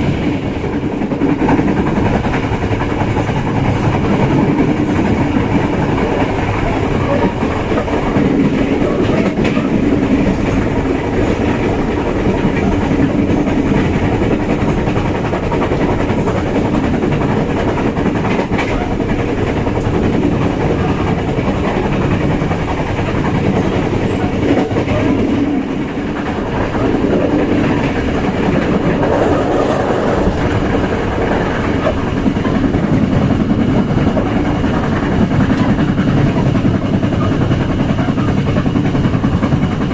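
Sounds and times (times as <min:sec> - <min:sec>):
train wheels running on rails: 0:00.0 - 0:39.9.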